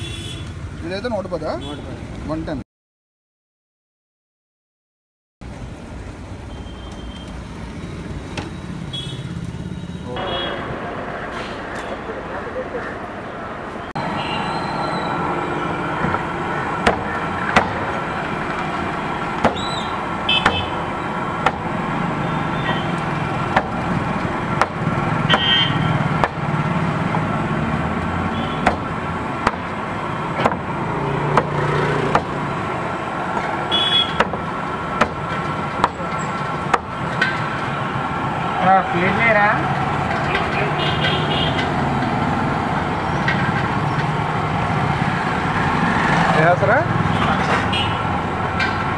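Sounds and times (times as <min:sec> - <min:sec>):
street traffic: 0:00.0 - 0:02.6, 0:05.4 - 0:48.9.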